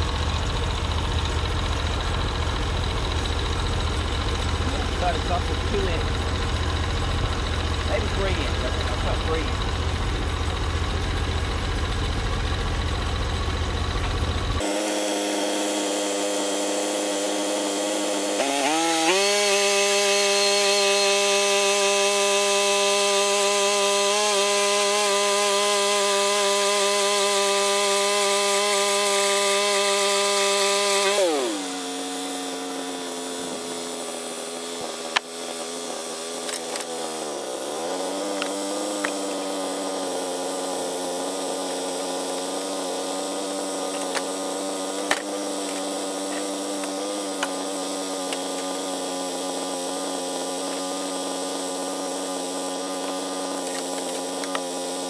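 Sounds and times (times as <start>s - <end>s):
gasoline engine revving: 0.0s - 54.6s
bandsaw blade sawing log: 0.0s - 55.0s.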